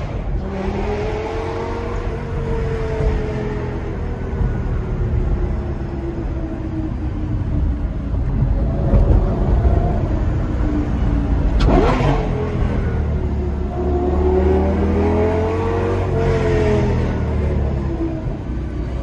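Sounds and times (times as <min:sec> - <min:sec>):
sports car engine revving: 0:00.0 - 0:06.1, 0:08.5 - 0:19.0.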